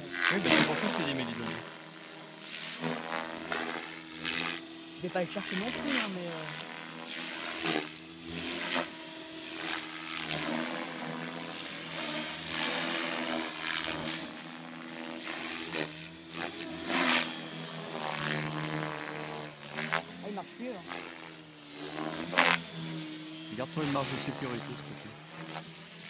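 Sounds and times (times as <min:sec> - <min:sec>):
helicopter rotor and motor drone: 0:00.0 - 0:26.0
high whine: 0:00.0 - 0:26.0.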